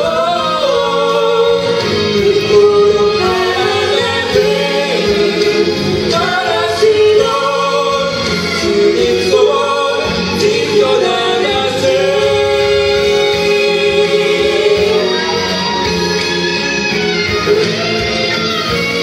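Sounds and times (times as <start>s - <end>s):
man and woman singing duet: 0.0s - 16.2s
music accompaniment: 0.0s - 19.0s.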